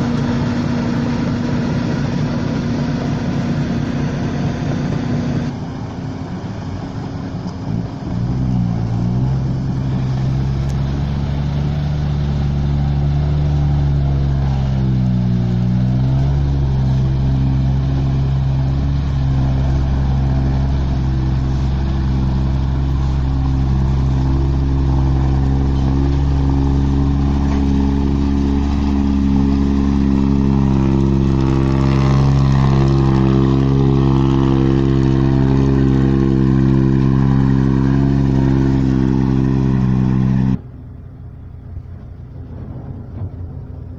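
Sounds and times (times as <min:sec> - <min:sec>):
diesel truck engine pulling hard: 0:00.0 - 0:43.9.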